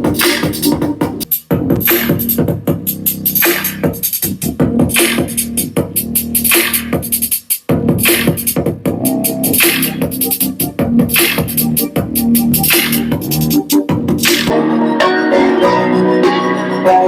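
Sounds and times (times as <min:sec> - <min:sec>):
hip-hop music with drum-machine beat: 0:00.0 - 0:17.0.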